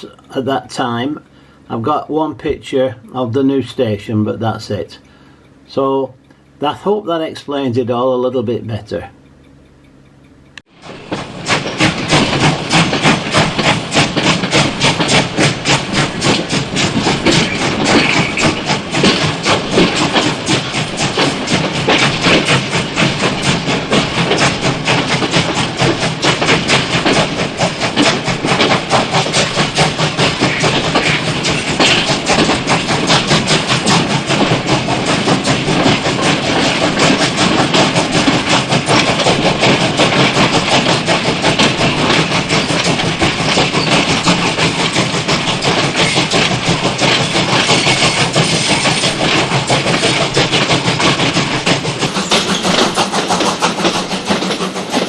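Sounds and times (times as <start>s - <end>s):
train clattering: 0.0s - 55.0s.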